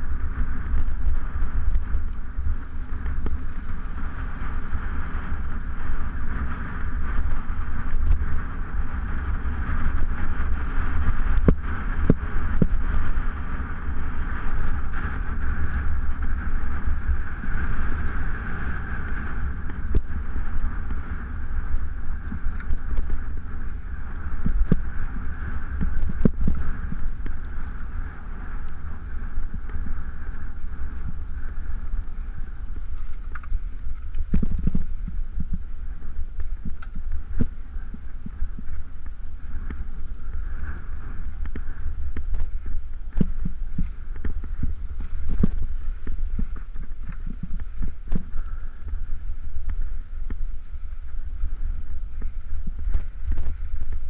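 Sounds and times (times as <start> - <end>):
wind on microphone: 0.0 - 54.0
bike clicks and rattles: 0.2 - 54.0.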